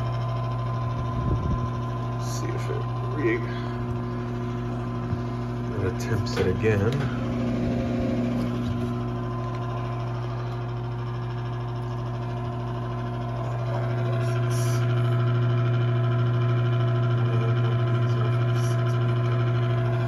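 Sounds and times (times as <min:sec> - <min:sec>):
furnace motor humming: 0:00.0 - 0:20.0.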